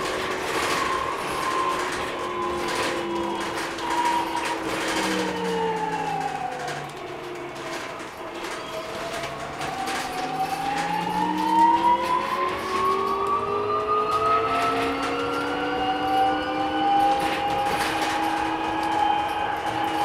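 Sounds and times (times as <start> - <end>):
electric motors whining: 0.0 - 20.0
interior rattles: 0.0 - 20.0
road noise: 0.0 - 20.0.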